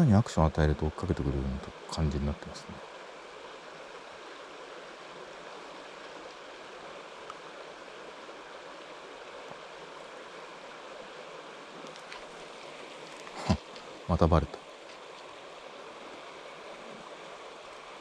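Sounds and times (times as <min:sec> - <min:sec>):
stream water running: 0:00.0 - 0:18.0.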